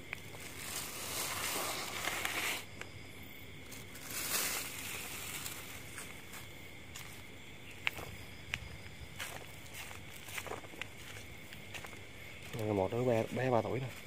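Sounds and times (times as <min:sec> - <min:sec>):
rustling on leafy ground: 0:00.0 - 0:02.8, 0:03.6 - 0:08.2, 0:08.9 - 0:14.0.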